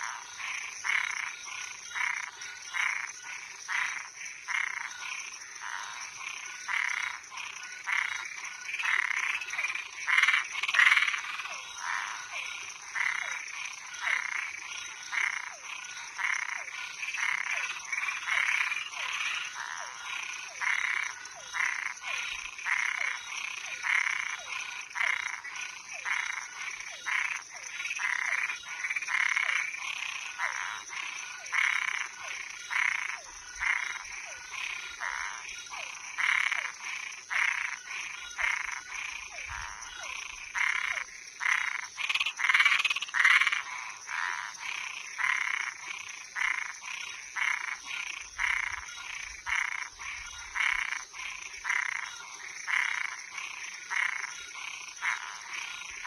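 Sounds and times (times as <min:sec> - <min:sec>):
frogs calling: 0:00.0 - 0:56.0.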